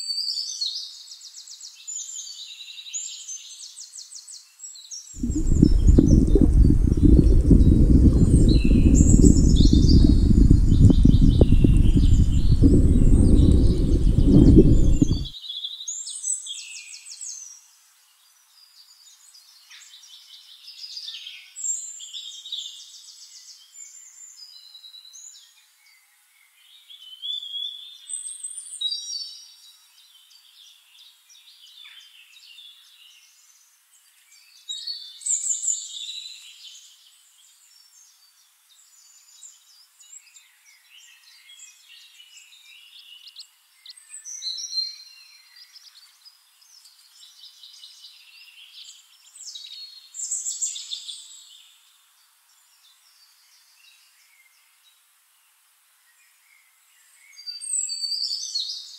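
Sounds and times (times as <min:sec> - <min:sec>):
small birds singing: 0:00.0 - 0:58.9.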